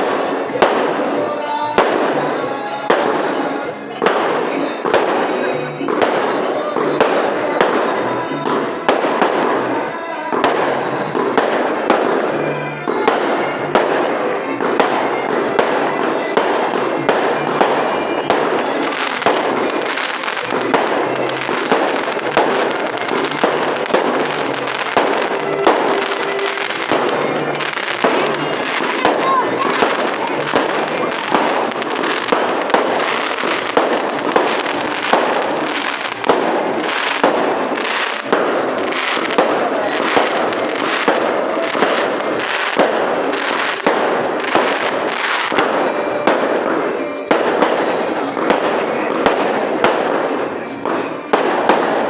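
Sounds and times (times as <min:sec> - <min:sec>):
fireworks crackling and banging: 0:00.0 - 0:52.0.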